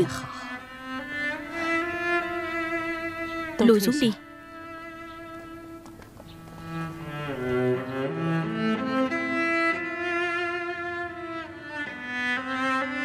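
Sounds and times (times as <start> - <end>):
slow melody on bowed strings: 0.0 - 13.0.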